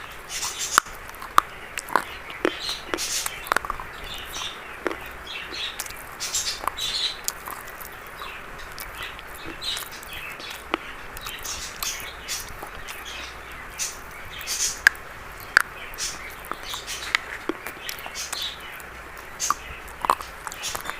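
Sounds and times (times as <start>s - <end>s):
chalk crunching: 0.0s - 20.9s.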